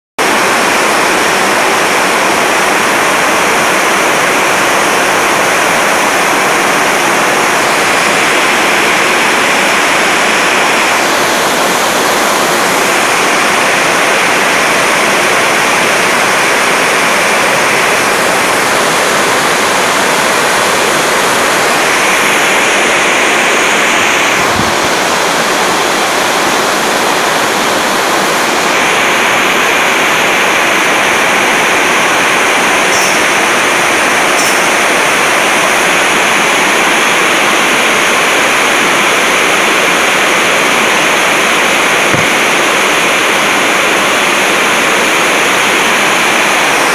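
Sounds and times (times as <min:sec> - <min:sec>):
loud steady rushing noise: 0:00.2 - 0:46.9.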